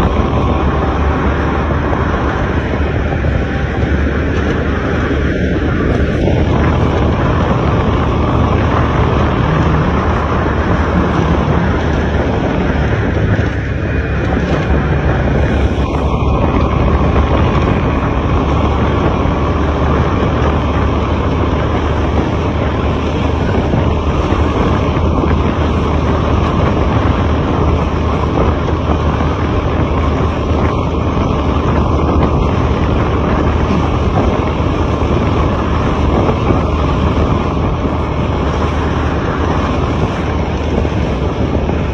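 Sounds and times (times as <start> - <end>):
road and wind noise: 0.0 - 41.9
truck engine drone: 0.0 - 41.9.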